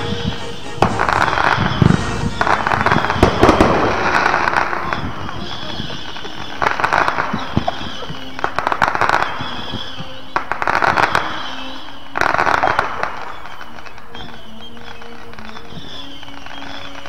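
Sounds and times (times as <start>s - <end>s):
fireworks crackling pops: 0.0s - 17.0s.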